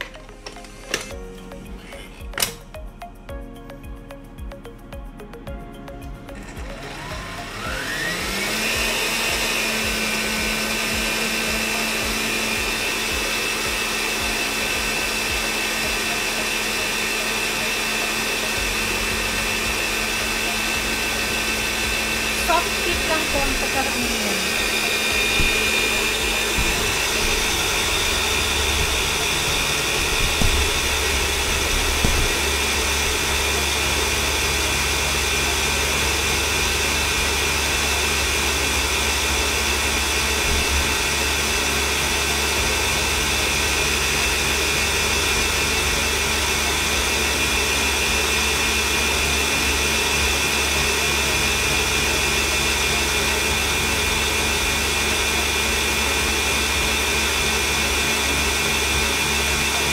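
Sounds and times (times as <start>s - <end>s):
electric mixer whipping cream: 6.3s - 59.9s.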